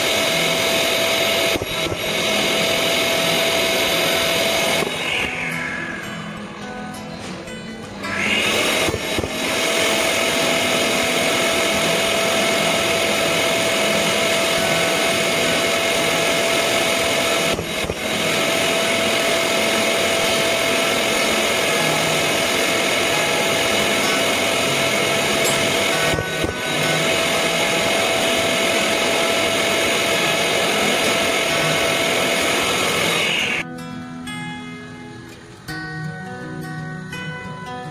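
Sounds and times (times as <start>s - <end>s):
drywall sander whining and hissing: 0.0s - 6.4s, 8.0s - 33.7s.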